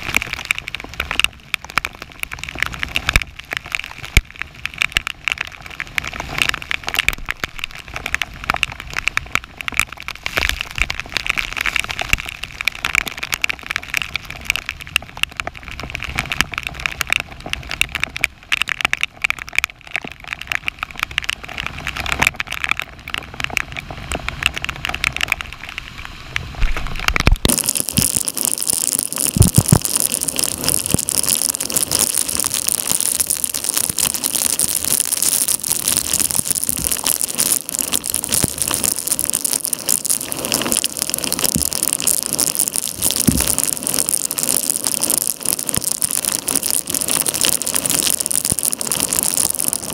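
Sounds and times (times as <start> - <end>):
heavy rain pelting water: 0.0 - 49.9.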